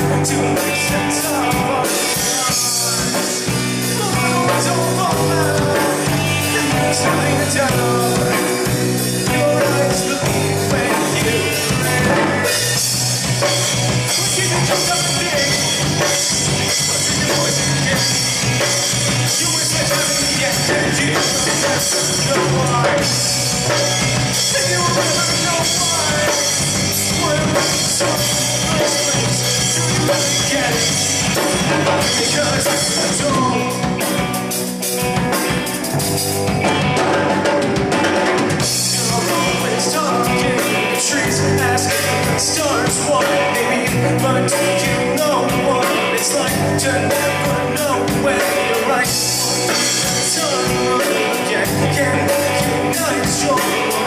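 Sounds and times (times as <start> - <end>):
drum kit: 0.0 - 54.0
live rock band playing: 0.0 - 54.0.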